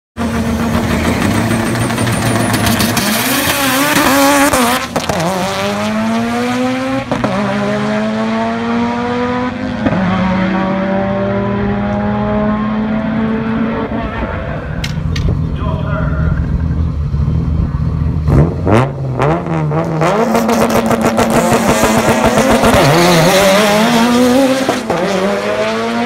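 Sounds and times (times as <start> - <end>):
car engine accelerating hard: 0.2 - 26.0.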